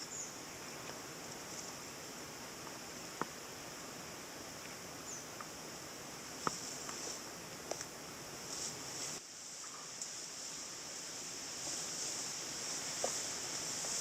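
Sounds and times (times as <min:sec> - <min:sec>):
high hiss: 0:00.0 - 0:14.0.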